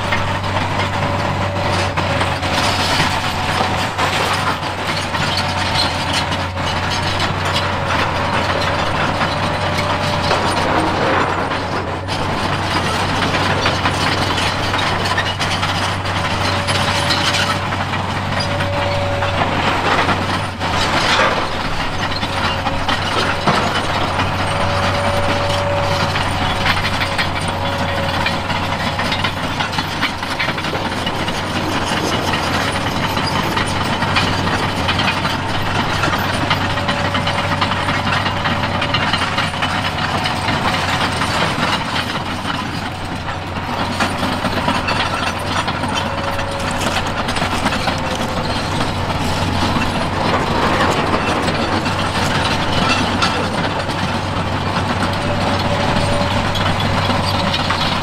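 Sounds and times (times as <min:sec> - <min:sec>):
excavator engine hum: 0:00.0 - 0:58.0.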